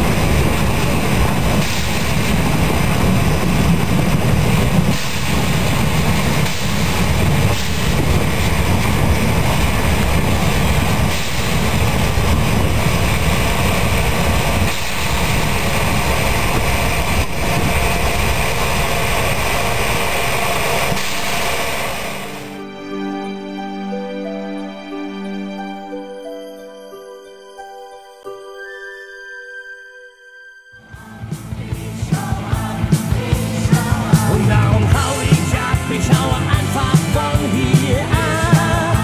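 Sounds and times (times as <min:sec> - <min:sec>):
steam locomotive rumbling: 0:00.0 - 0:23.3, 0:30.8 - 0:39.0.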